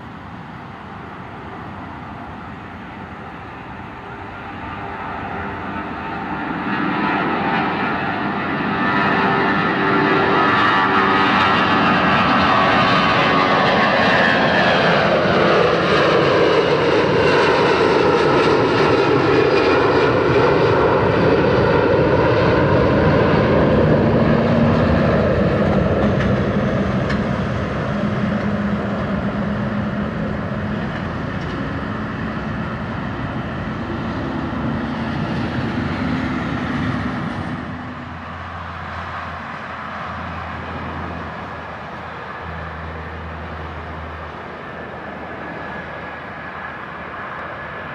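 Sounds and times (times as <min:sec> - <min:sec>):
jet airliner roar with engine whine: 0:00.0 - 0:47.9
quieter steady jet sound: 0:00.0 - 0:47.9.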